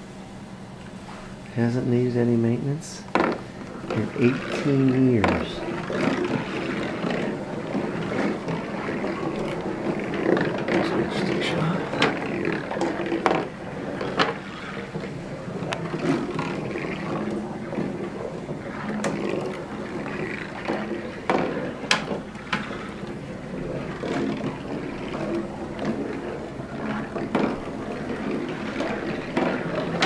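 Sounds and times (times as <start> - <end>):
marbles rolling on track: 3.1 - 30.0
marbles clicking: 3.2 - 30.0.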